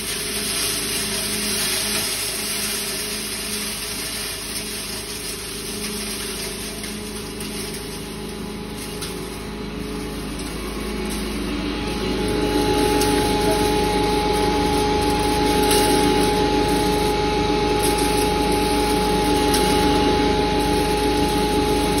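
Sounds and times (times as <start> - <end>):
grinder motor humming: 0.0 - 22.0.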